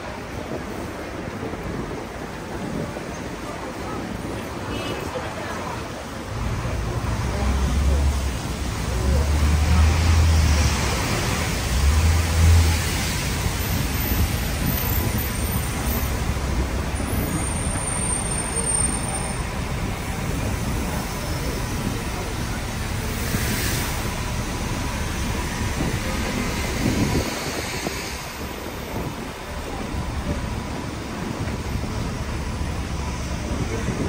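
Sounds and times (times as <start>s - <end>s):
wind rumble on microphone: 0.0s - 18.1s, 19.6s - 34.0s
city street traffic: 0.0s - 34.0s
murmur of passers-by: 0.0s - 34.0s.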